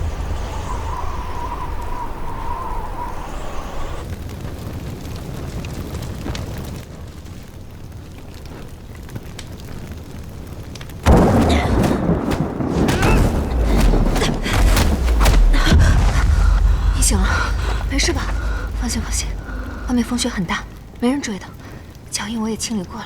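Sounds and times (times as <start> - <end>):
blizzard wind blowing: 0.0 - 23.0
deep rumble with crackles: 0.0 - 23.0.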